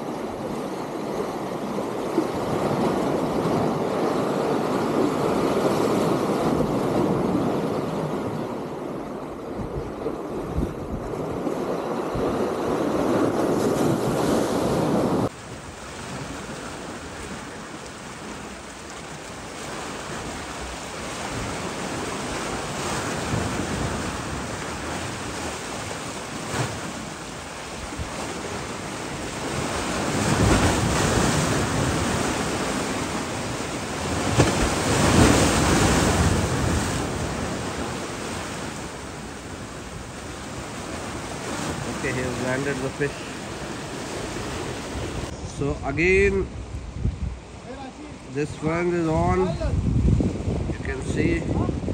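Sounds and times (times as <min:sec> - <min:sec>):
sea surf washing against breakwater: 0:00.0 - 0:51.9
wind buffeting microphone: 0:01.9 - 0:42.2, 0:43.4 - 0:48.0, 0:48.7 - 0:51.9.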